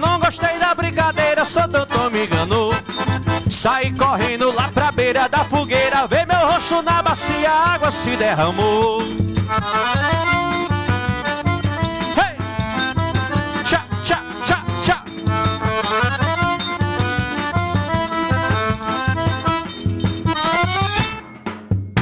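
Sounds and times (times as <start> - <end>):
accordion melody: 0.0 - 21.4
bass drum beat: 0.0 - 22.0.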